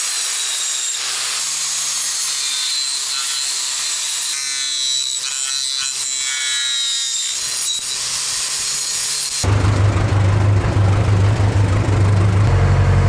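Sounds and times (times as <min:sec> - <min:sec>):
angle grinder motor whine: 0:00.0 - 0:13.0.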